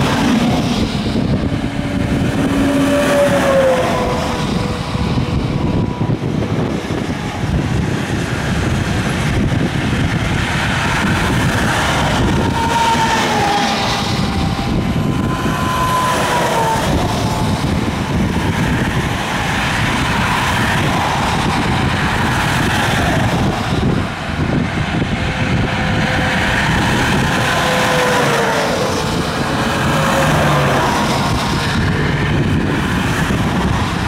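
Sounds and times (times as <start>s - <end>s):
highway traffic passing: 0.0s - 34.0s
vehicle whine dropping in pitch: 0.0s - 34.0s.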